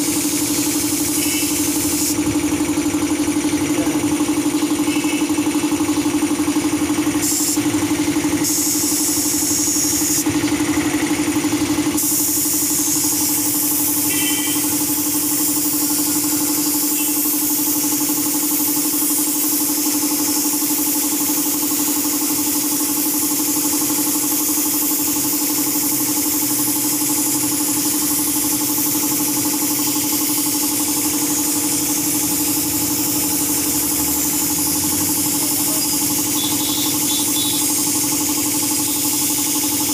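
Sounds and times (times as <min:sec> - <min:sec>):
spray gun hissing: 0:00.0 - 0:06.4, 0:07.0 - 0:10.3, 0:11.9 - 0:39.9
air compressor running: 0:00.0 - 0:39.9.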